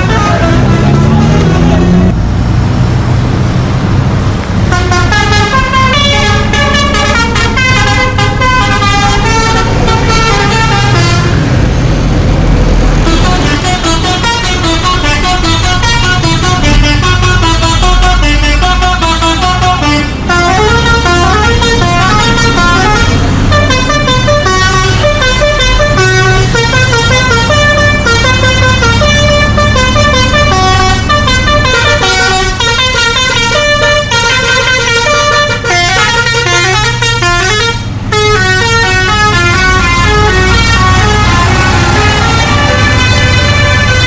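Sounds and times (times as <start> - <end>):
musical bus horn playing a tune: 0.0 - 2.1, 4.5 - 11.6, 12.8 - 44.0
bus engine rumble: 0.0 - 44.0.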